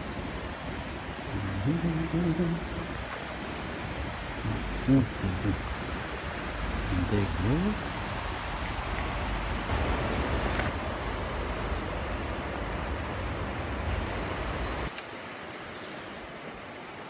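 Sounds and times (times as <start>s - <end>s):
wind on microphone: 0.0s - 14.9s
outdoor hiss: 0.0s - 17.0s
river water rushing over weir: 0.0s - 17.0s.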